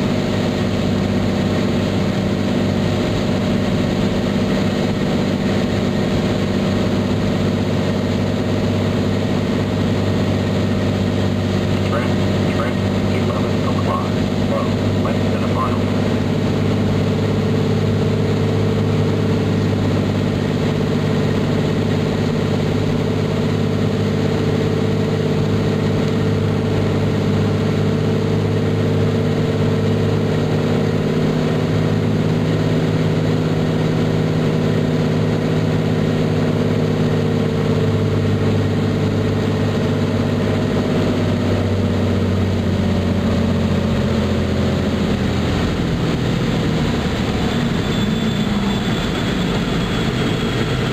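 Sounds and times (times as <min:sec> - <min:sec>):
airplane engine and propeller: 0:00.0 - 0:50.9.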